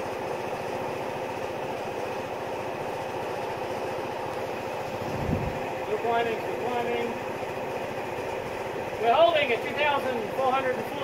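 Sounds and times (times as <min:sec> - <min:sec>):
charging supply humming and buzzing: 0:00.0 - 0:11.0.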